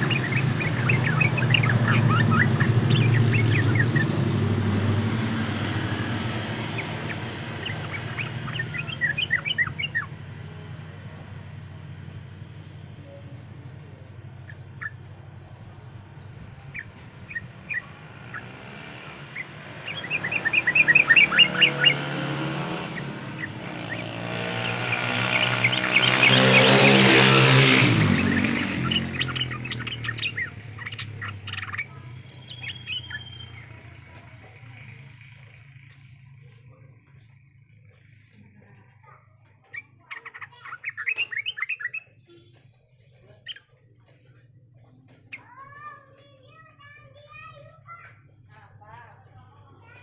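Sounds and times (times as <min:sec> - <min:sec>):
bird chirping song: 0:00.0 - 0:50.0
vehicle engine hum: 0:00.0 - 0:50.0.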